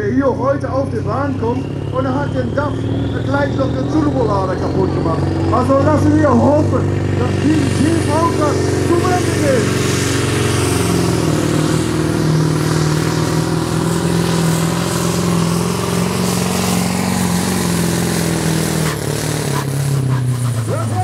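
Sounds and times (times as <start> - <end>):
truck diesel engine droning: 0.0 - 21.0.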